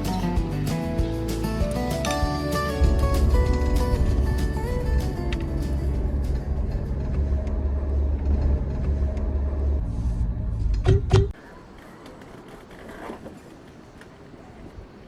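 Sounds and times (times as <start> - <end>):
road vehicle rumbling: 0.0 - 15.0.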